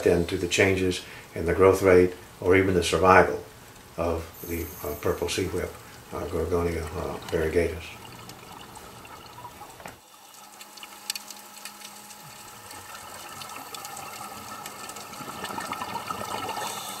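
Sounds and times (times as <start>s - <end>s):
faint steady hum: 0.0s - 17.0s
underwater water noise: 0.0s - 17.0s.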